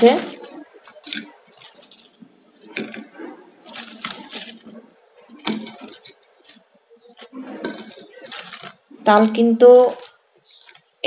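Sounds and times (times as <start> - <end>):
dry crust crackling: 0.0 - 11.0.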